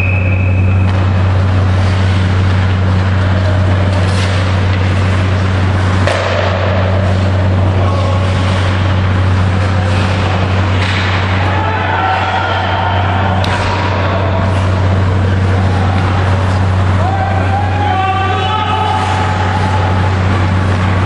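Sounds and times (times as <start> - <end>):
faint hockey play: 0.0 - 21.0
loud low hum with hiss: 0.0 - 21.0.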